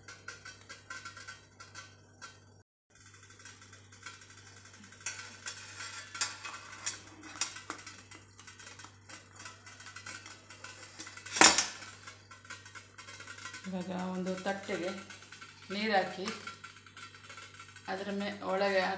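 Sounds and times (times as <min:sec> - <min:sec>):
metal tongs clinking on steel plate: 0:03.4 - 0:18.9.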